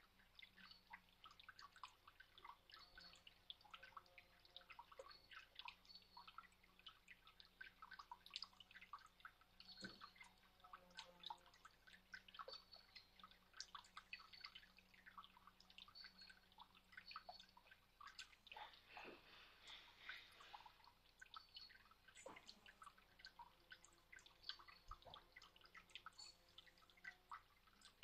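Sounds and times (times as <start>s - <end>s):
fountain water trickling: 0.0s - 28.0s.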